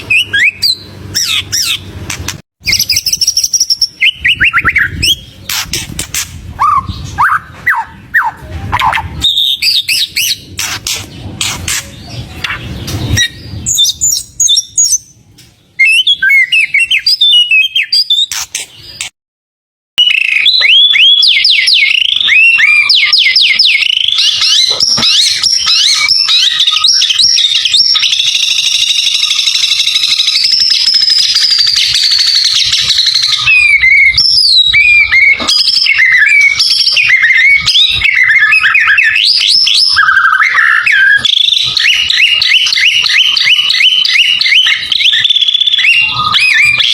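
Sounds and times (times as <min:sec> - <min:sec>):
bird singing whistles and trills: 0:00.0 - 0:01.8, 0:02.6 - 0:15.2, 0:15.8 - 0:19.1, 0:20.0 - 0:46.9.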